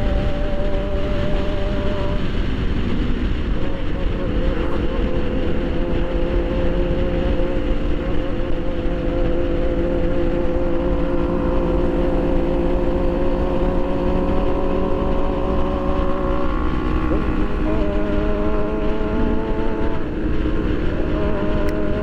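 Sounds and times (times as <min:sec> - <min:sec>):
motorcycle engine running: 0:00.0 - 0:22.0
wind rumbling on microphone: 0:00.0 - 0:22.0.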